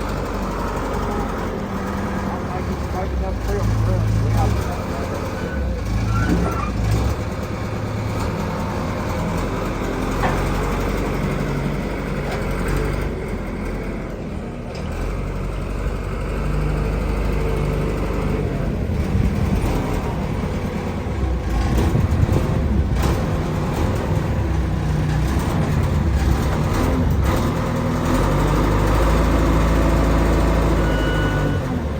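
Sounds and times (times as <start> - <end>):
large engine running: 0.0 - 31.9.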